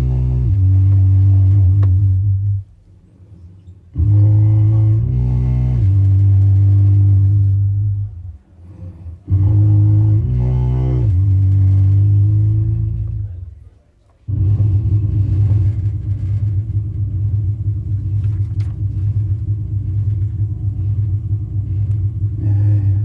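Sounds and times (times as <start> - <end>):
deep droning notes: 0.0 - 23.0.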